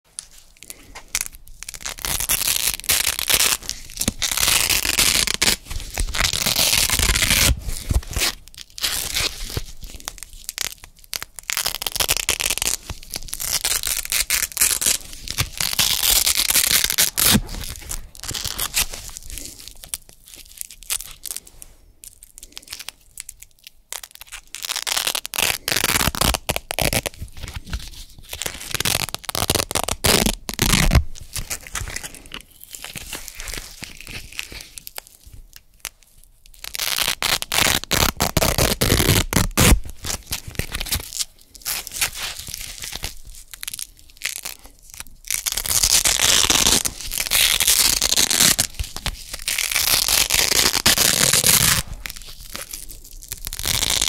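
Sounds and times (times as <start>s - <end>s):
velcro strips ripping apart: 0.2s - 54.0s.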